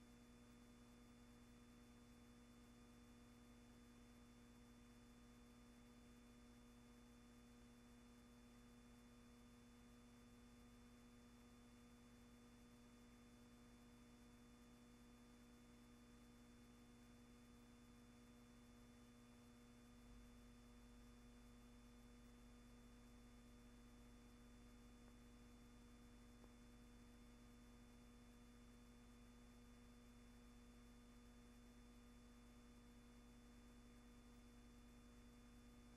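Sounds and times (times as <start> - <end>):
faint hum and hiss: 0.0 - 35.9.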